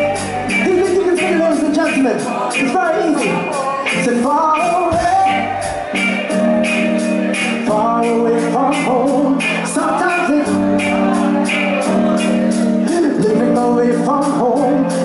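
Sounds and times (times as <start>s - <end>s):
live reggae band: 0.0s - 15.0s
man singing: 0.0s - 15.0s.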